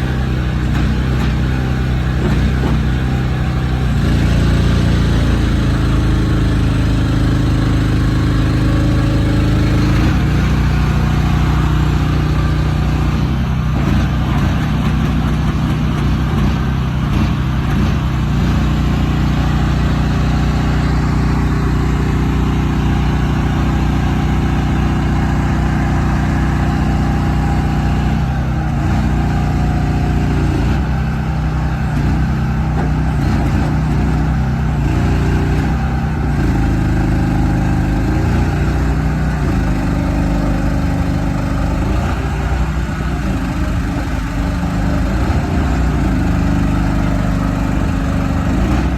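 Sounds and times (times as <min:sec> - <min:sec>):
large truck engine running: 0:00.0 - 0:48.9.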